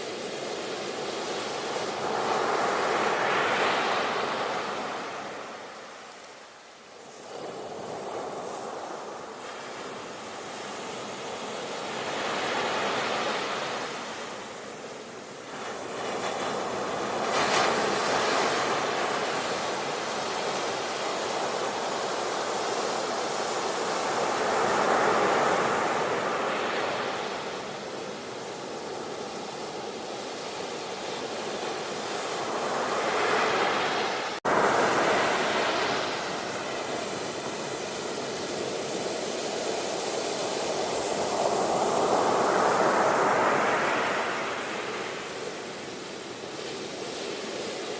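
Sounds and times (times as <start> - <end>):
sea waves washing on shore: 0.0 - 47.9.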